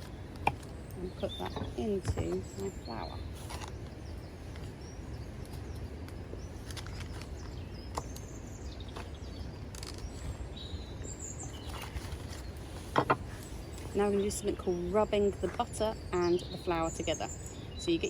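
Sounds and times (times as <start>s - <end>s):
bird chirps: 0.0s - 18.0s.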